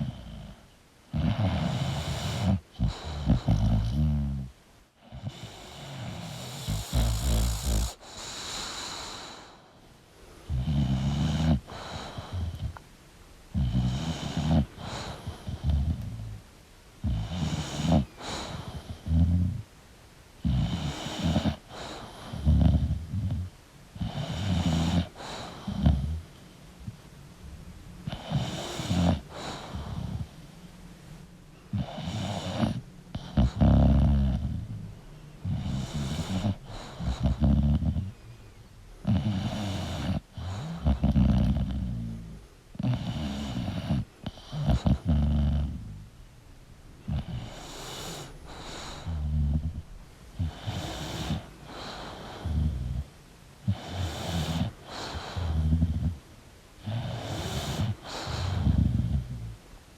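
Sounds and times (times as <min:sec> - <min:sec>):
dog snoring: 0:00.0 - 0:09.8, 0:10.4 - 0:12.8, 0:13.5 - 0:16.4, 0:17.0 - 0:19.7, 0:20.4 - 0:27.0, 0:28.0 - 0:30.4, 0:31.7 - 0:38.2, 0:39.0 - 0:46.1, 0:47.0 - 0:56.2, 0:56.8 - 0:59.6.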